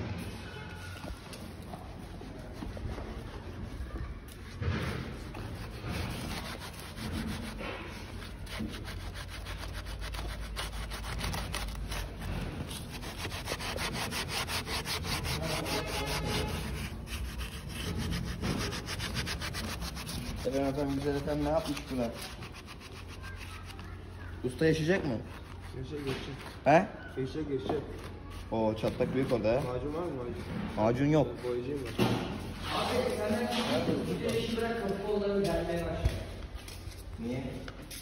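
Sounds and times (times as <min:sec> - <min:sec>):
rubbing strokes on hard surface: 0:00.2 - 0:38.0.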